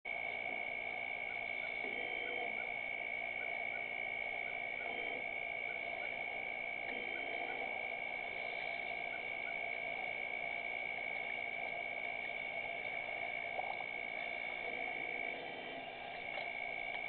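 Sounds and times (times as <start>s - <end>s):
high-pitched ringing tone: 0.1s - 17.0s.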